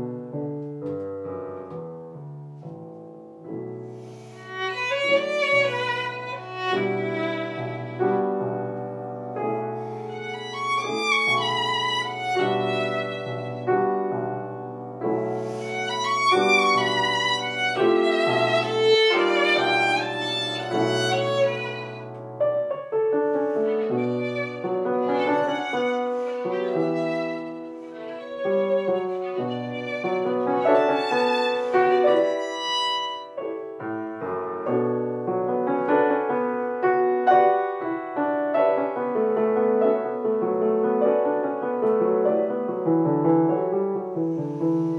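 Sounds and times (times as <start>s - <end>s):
grand piano accompaniment: 0.0s - 44.9s
violin melody: 3.4s - 44.9s.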